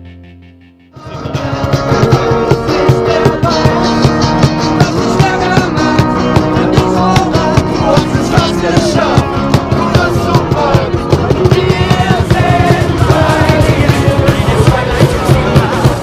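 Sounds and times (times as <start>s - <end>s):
acoustic guitars playing: 0.0s - 16.0s
bass guitar: 0.0s - 16.0s
cajon beat: 1.0s - 16.0s.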